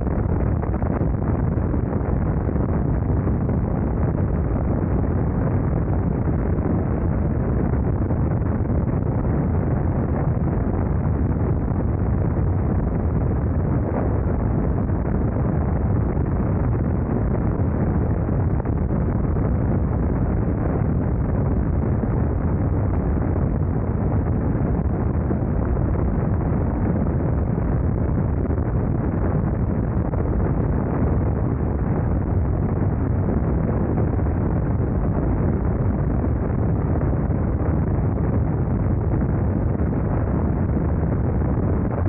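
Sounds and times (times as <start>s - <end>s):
wind rushing on microphone: 0.0s - 42.0s.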